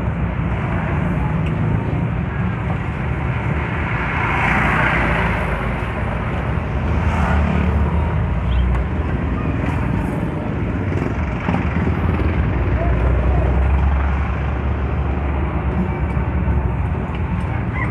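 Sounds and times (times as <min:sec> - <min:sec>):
surrounding traffic: 0:00.0 - 0:17.9
vehicle engine and road noise: 0:00.0 - 0:17.9.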